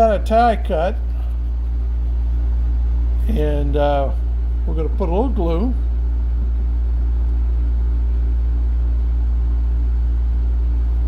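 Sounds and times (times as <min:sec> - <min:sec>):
low hum with overtones: 0:00.0 - 0:11.0.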